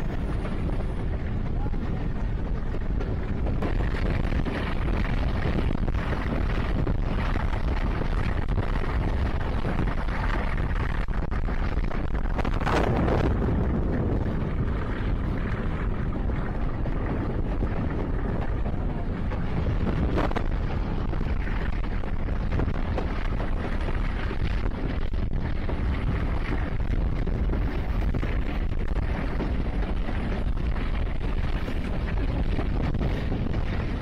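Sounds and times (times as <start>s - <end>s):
train rumbling along track: 0.0s - 8.4s, 12.2s - 34.0s
wind buffeting microphone: 0.0s - 34.0s.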